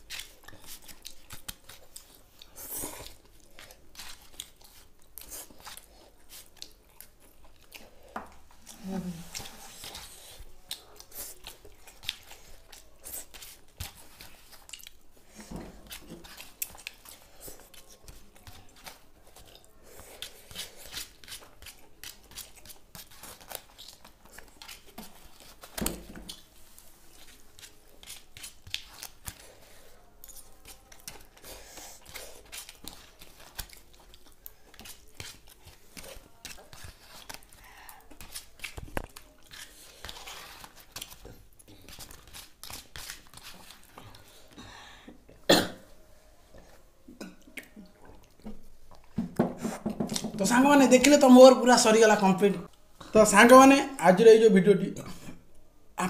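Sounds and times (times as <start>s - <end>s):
chewing: 0.0s - 25.6s, 27.1s - 44.6s, 47.2s - 49.2s.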